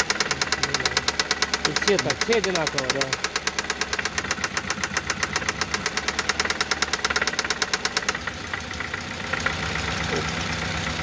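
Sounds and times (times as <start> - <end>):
fast regular engine knock: 0.0 - 10.2
car engine running: 0.0 - 11.0.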